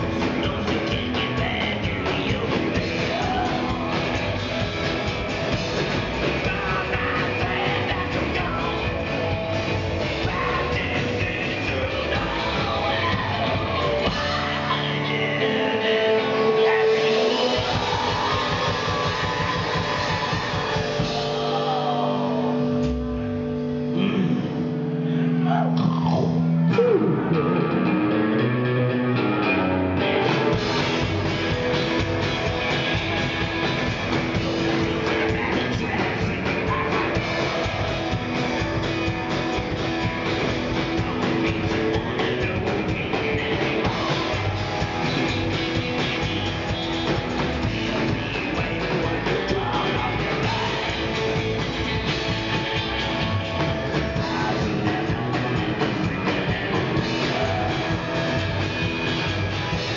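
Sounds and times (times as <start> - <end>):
rockabilly band with singing: 0.0 - 59.9.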